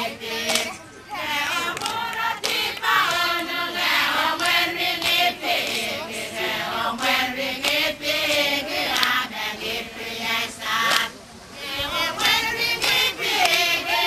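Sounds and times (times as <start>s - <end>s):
women chanting together: 0.0s - 14.0s.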